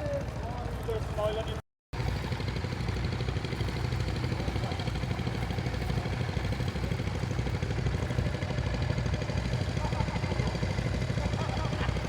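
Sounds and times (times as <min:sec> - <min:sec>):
tractor engine idling: 0:02.0 - 0:12.0.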